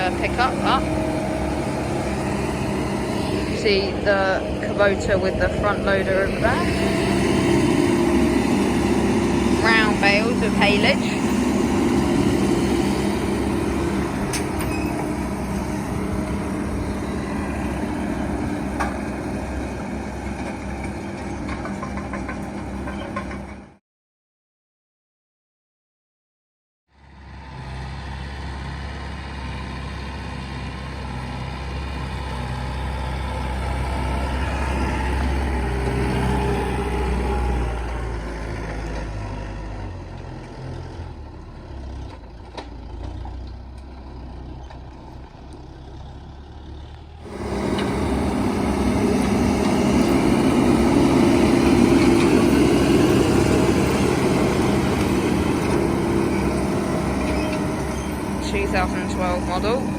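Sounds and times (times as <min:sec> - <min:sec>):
close engine: 0:00.0 - 0:23.8, 0:26.9 - 0:59.9
tractor engine running: 0:00.0 - 0:23.8, 0:27.0 - 0:59.9.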